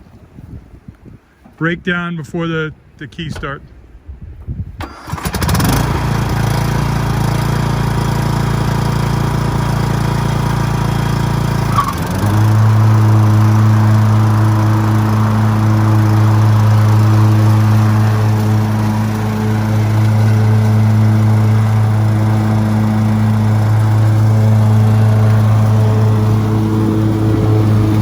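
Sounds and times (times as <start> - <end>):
lawn mower engine running: 4.8 - 28.0.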